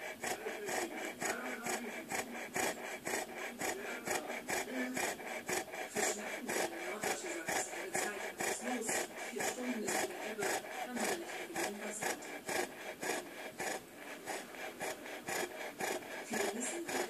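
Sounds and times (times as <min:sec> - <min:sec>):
dog snoring: 0:00.0 - 0:17.0.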